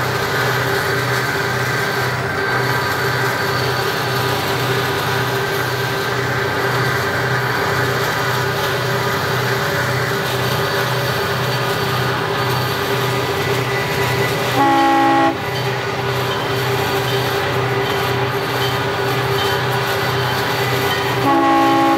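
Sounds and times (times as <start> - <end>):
freight train running: 0.0 - 21.9.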